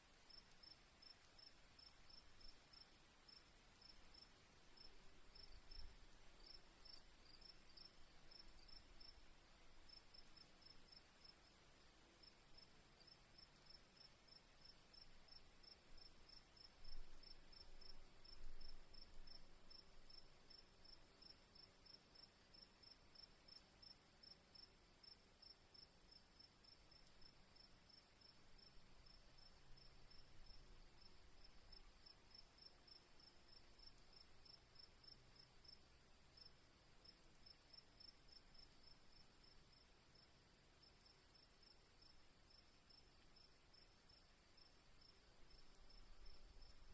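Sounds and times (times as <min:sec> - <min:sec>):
cricket chirping: 0:00.1 - 0:46.9.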